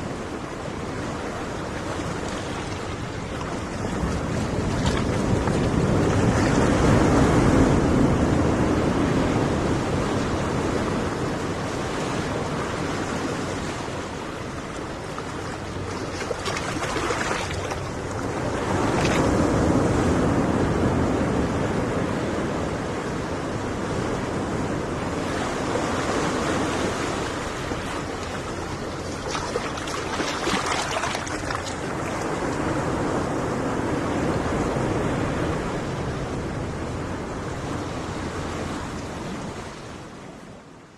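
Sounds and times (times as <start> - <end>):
waves breaking: 0.0 - 40.9
wind on microphone: 0.0 - 40.9.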